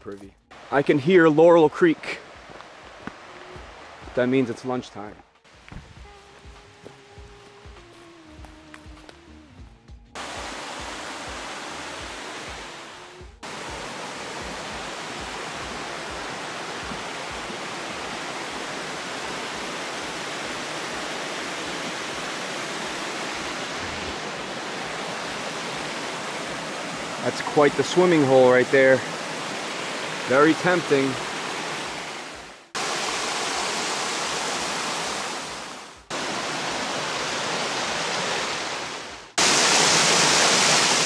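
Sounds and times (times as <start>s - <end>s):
creek rushing over cascades: 0.0s - 9.3s, 10.2s - 41.0s.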